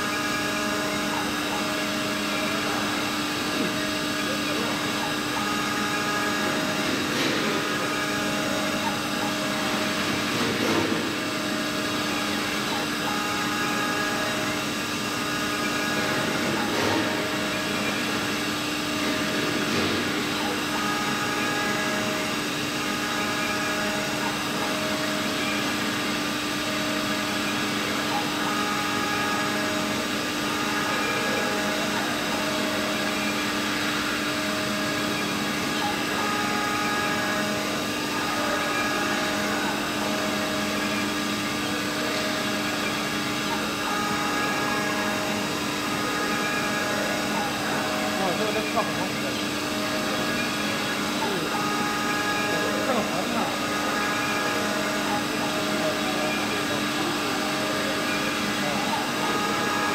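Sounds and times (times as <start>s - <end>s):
high machine tones: 0.0s - 59.9s
milling machine motor whine: 0.0s - 59.9s.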